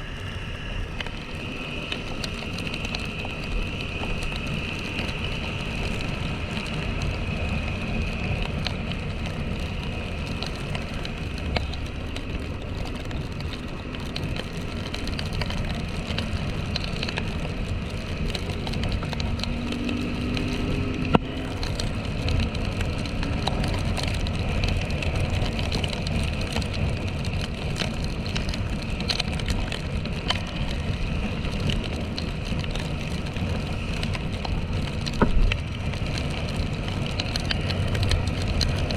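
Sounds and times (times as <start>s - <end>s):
motorcycle engine running: 0.0s - 38.9s
wet road and wind hiss: 0.0s - 38.9s.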